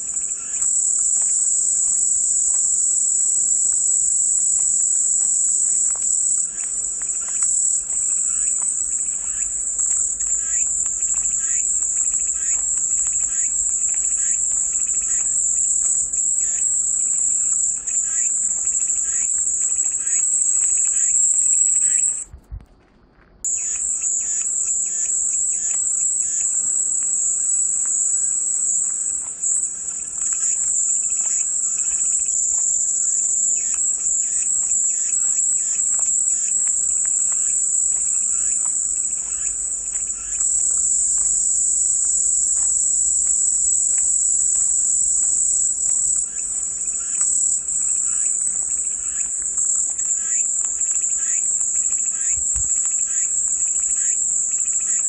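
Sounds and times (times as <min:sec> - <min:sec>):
cicadas buzzing: 0:00.0 - 0:22.3, 0:23.4 - 0:55.0.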